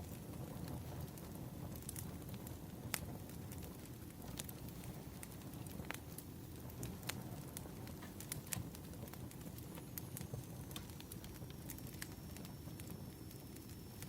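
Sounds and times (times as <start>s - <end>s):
firewood crackling and popping: 0.0s - 14.0s
low rumble of flames: 0.0s - 14.0s.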